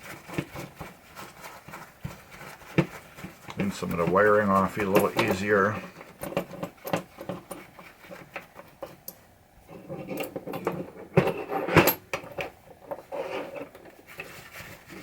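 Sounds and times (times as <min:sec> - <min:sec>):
rag rubbing metal parts: 0:00.0 - 0:09.1, 0:09.8 - 0:15.0.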